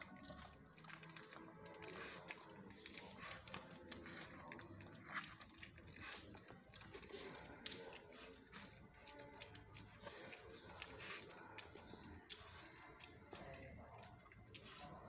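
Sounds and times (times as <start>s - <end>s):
puppy chewing wetly: 0.0s - 15.0s.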